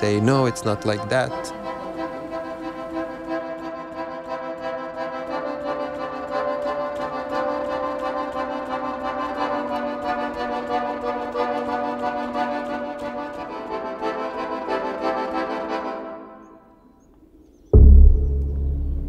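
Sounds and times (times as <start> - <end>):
music of sustained chords: 0.0 - 17.0, 17.8 - 19.0.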